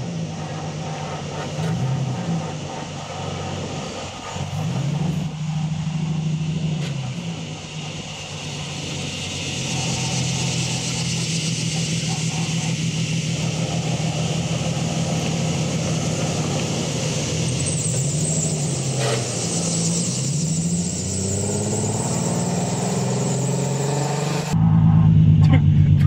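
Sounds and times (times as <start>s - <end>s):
car engine running: 0.0s - 26.0s
road and tyre noise: 0.0s - 26.0s.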